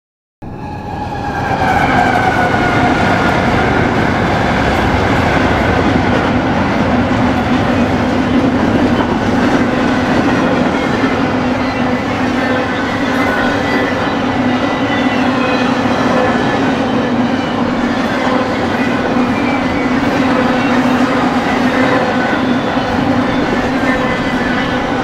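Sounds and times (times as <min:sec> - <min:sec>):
freight train rumbling past: 0:00.4 - 0:25.0
train whine: 0:00.4 - 0:25.0.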